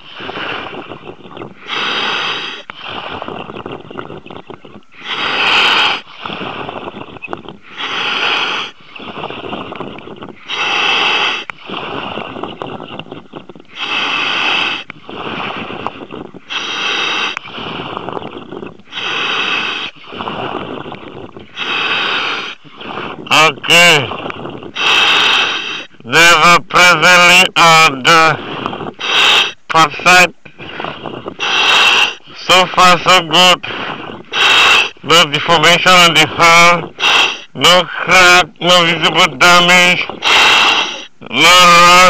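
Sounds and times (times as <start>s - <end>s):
rush of regulator air: 0.0s - 3.5s, 4.9s - 12.6s, 13.5s - 26.6s, 27.6s - 41.8s
diver breathing: 0.0s - 26.5s, 27.3s - 42.0s.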